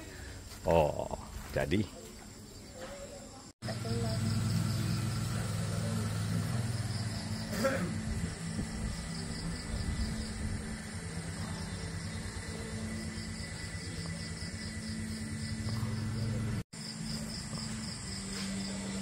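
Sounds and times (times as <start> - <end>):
insects chirping trill: 0.0 - 19.0
steady low hum: 3.7 - 19.0.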